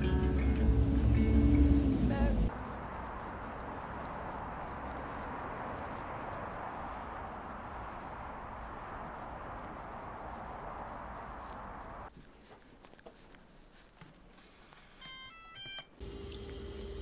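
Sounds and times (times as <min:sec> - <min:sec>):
street ambience hiss: 0:00.0 - 0:15.0.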